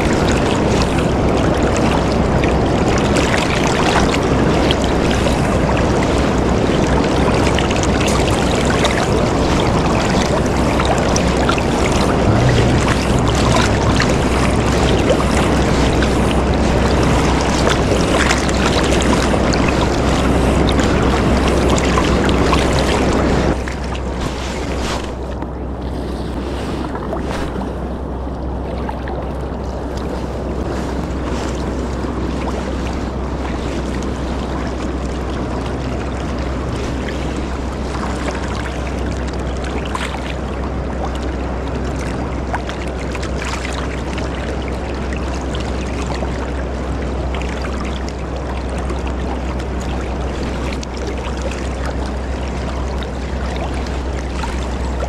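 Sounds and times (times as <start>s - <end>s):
choppy river lapping: 0.0s - 55.0s
wind rumbling on microphone: 0.0s - 55.0s.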